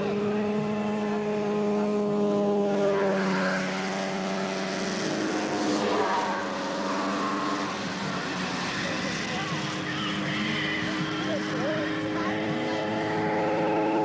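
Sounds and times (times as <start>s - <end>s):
snowmobile engine droning: 0.0s - 14.0s.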